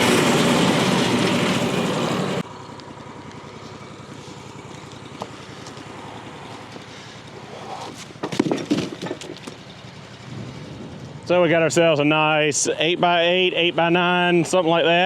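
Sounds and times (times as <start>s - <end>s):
gas engine idling: 0.0s - 15.0s.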